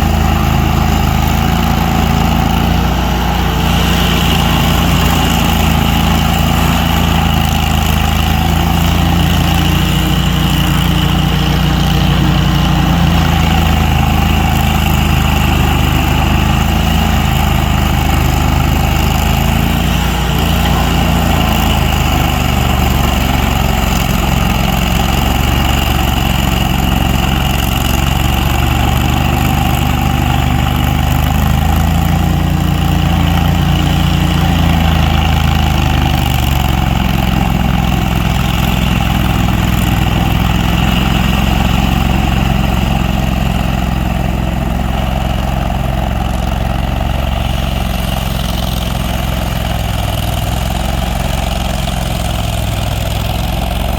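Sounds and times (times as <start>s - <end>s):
large engine running: 0.0s - 53.9s.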